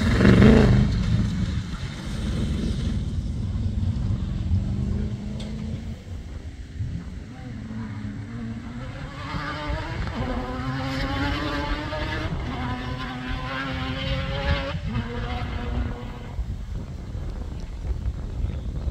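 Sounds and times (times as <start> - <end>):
rally car engine revving: 0.0 - 16.6.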